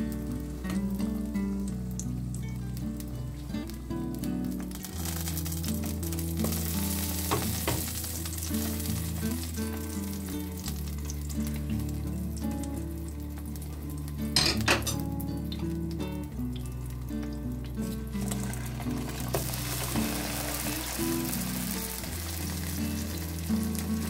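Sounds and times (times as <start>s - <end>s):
slices sizzling in hot oil: 0.0s - 24.0s.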